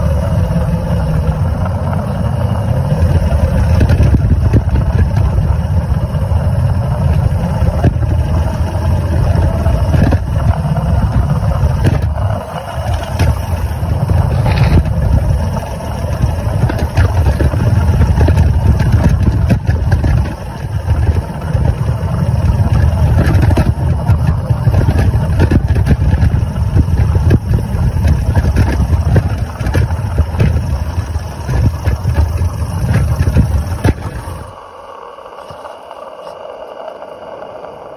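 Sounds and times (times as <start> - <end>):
steam engine rumble: 0.0 - 37.9
wheels rolling over paving: 0.0 - 37.9.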